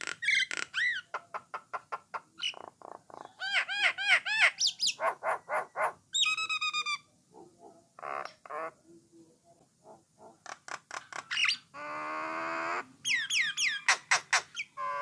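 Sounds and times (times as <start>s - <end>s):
myna bird singing: 0.2s - 15.0s.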